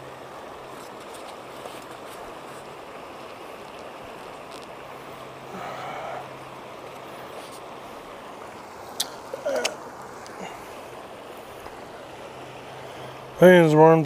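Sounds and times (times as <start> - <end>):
river water flowing: 0.0 - 14.0.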